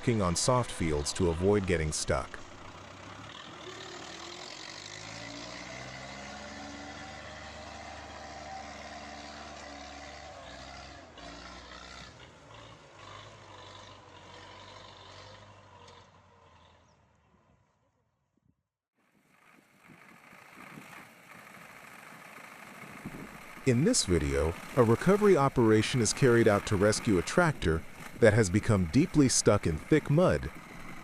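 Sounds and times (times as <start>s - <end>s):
tractor diesel engine straining: 0.0s - 16.9s, 19.2s - 31.0s.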